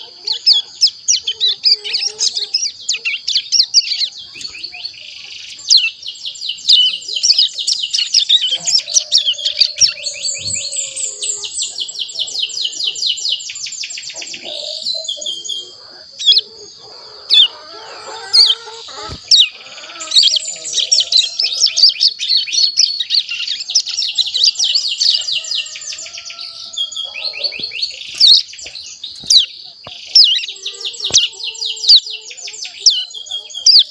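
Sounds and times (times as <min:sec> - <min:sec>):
bird twittering chirps and trills: 0:00.0 - 0:33.9.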